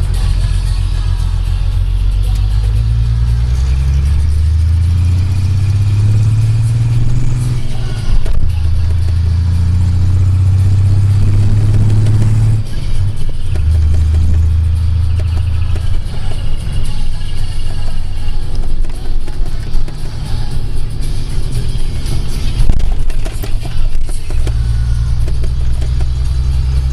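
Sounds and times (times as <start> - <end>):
diesel truck engine accelerating: 0.0 - 26.9.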